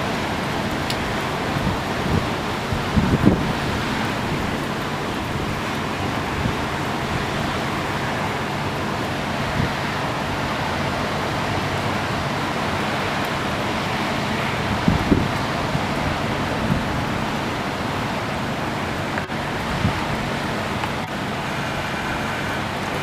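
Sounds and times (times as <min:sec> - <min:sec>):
ocean surf: 0:00.0 - 0:23.0
storm wind: 0:00.0 - 0:23.0
wind buffeting microphone: 0:00.0 - 0:23.0.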